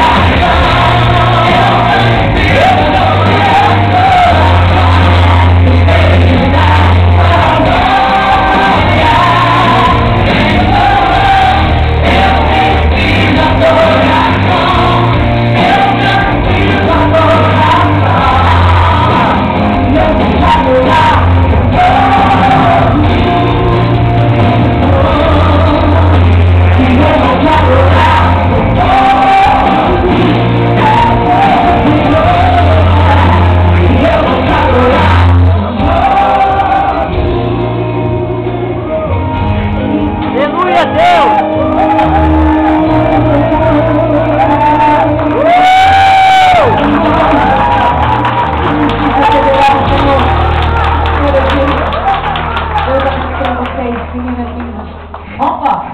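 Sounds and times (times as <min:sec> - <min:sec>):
woman singing into microphone: 0:00.0 - 0:39.0, 0:39.7 - 0:51.9
amplified backing music with bass: 0:00.0 - 0:55.9.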